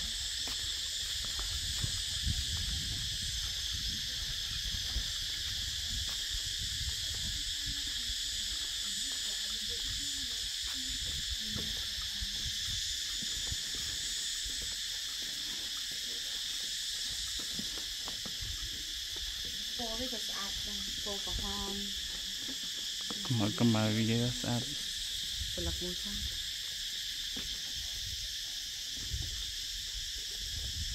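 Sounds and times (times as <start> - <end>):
insect chorus drone: 0.0 - 30.9.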